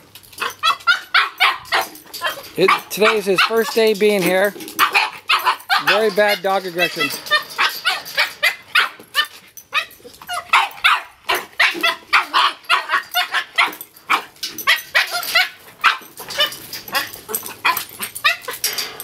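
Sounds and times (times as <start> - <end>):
dogs barking: 0.4 - 19.0.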